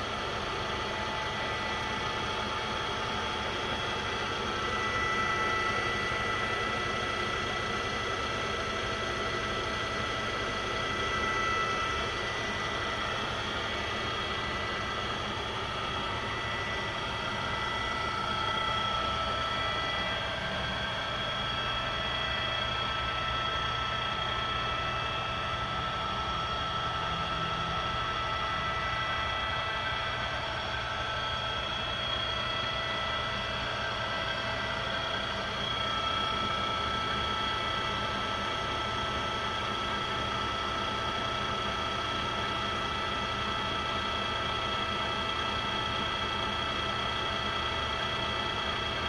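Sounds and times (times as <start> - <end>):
drill press motor humming: 0.0 - 49.0.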